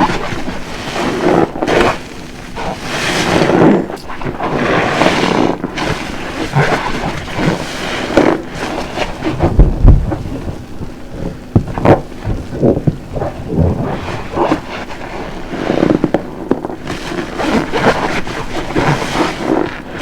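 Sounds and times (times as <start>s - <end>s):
soapy sponge squelching: 0.0s - 20.0s.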